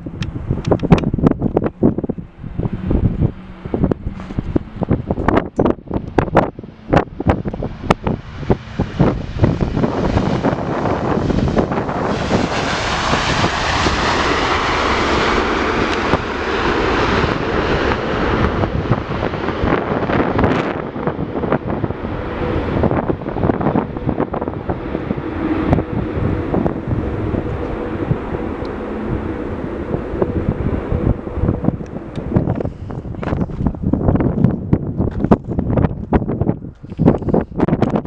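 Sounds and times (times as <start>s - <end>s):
jet airliner engines passing: 0.0s - 38.0s
wind buffeting the microphone: 0.0s - 38.0s.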